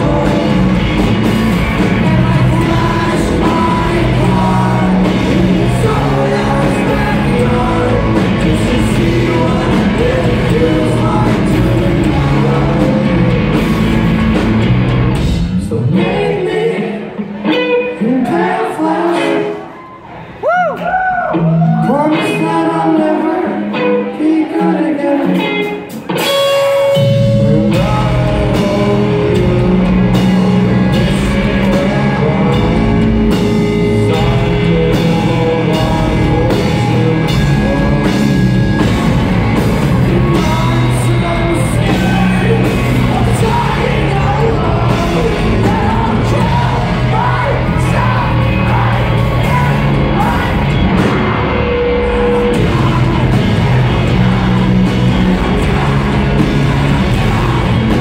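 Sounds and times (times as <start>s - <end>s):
bass guitar: 0.0s - 18.5s, 20.4s - 58.0s
drums: 0.0s - 58.0s
electric guitars: 0.0s - 58.0s.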